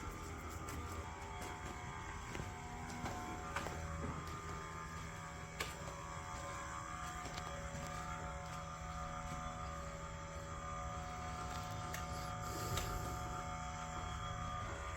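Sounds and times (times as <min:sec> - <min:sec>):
mechanical hum: 0:00.0 - 0:14.9.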